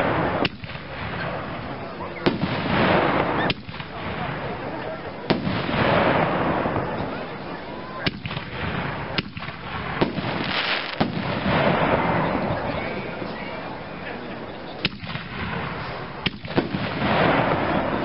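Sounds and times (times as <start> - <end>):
sharp bangs: 0.0 - 12.9, 14.8 - 18.0
fireworks crackling: 0.0 - 18.0.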